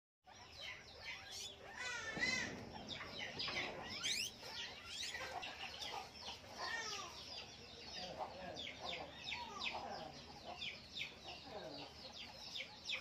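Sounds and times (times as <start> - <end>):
guinea pigs squeaking: 0.3 - 13.0.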